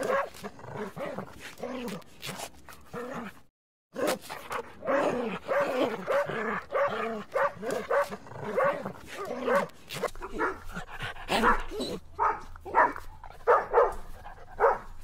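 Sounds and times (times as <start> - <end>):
dogs barking and yipping: 0.0 - 1.6, 4.0 - 15.0.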